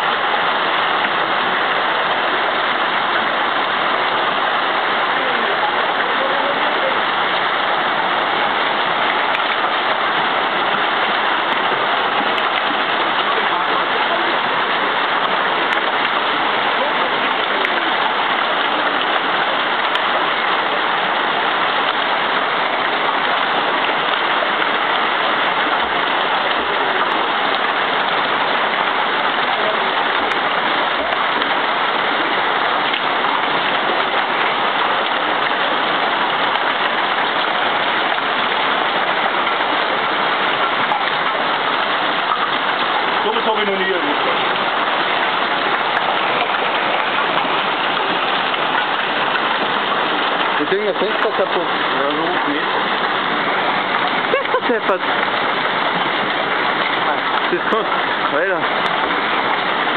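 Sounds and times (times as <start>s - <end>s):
hail and rain pelting down: 0.0s - 59.9s.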